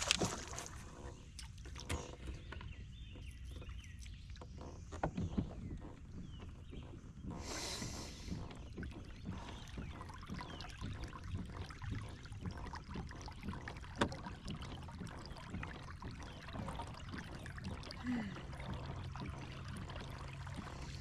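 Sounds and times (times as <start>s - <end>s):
gear knocking on boat: 0.0s - 21.0s
water against kayak hull: 0.0s - 21.0s.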